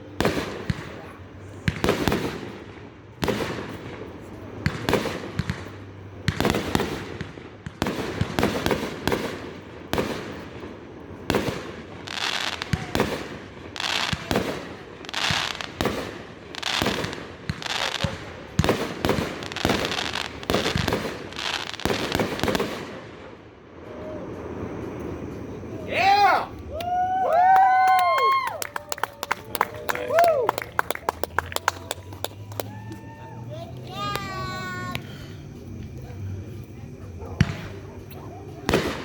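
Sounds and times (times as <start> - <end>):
fireworks bangs and pops: 0.0 - 25.8, 26.5 - 36.1, 37.2 - 39.0.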